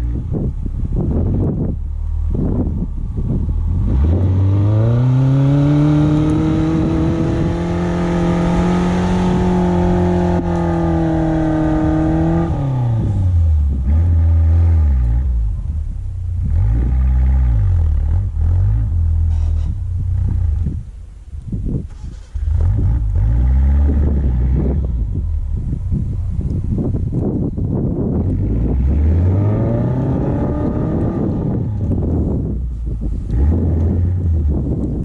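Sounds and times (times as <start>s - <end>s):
car engine revving: 0.0s - 20.8s, 21.9s - 35.0s.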